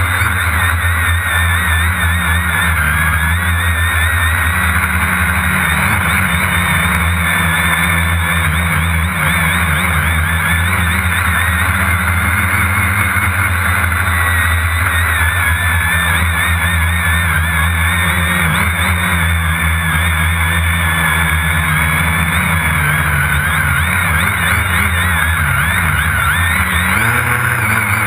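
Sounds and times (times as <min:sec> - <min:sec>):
drone motors whining: 0:00.0 - 0:28.0
low hum: 0:00.0 - 0:28.0.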